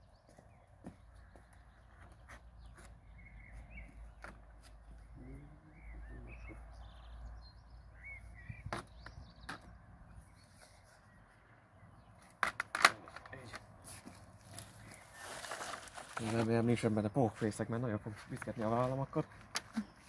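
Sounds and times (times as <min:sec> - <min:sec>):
small birds chirping: 0:00.0 - 0:12.4, 0:13.0 - 0:20.0.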